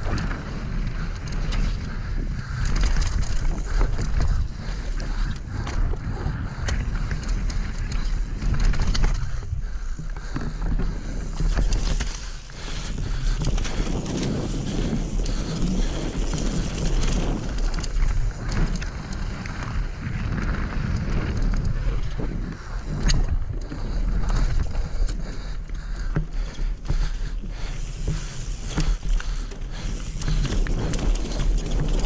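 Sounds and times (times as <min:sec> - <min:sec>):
bike rattles and knocks: 0:00.0 - 0:32.0
tyres rumbling on gravel: 0:00.0 - 0:32.0.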